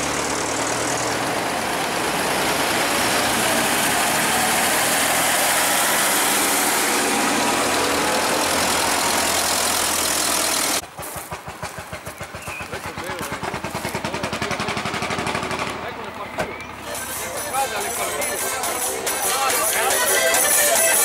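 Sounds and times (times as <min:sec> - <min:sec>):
tractor engines running: 0:00.0 - 0:21.0.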